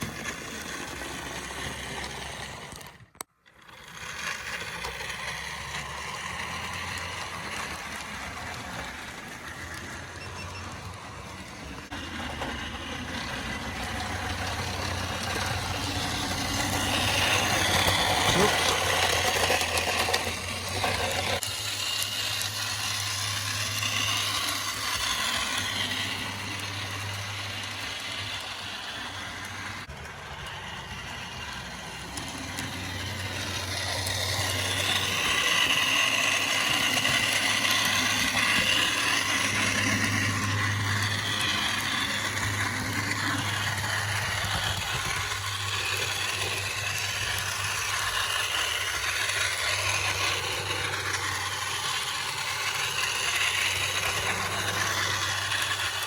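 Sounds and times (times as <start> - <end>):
model train motor whir: 0.0 - 56.0
wheels rattling over rails: 0.0 - 56.0.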